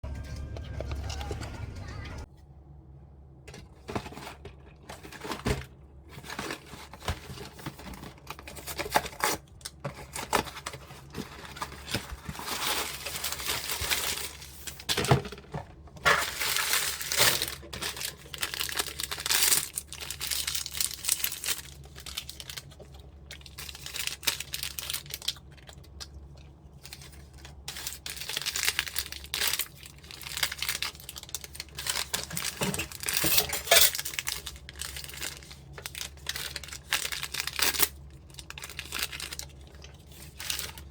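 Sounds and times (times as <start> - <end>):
packaging crinkling and tearing: 4.1 - 15.3, 16.0 - 40.9.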